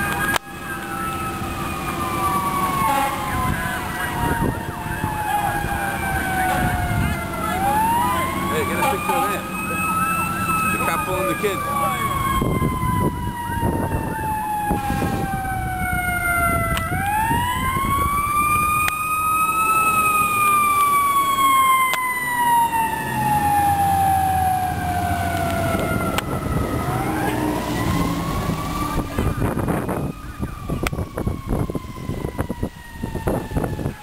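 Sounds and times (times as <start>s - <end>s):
fire engine siren wailing: 0.0s - 34.0s.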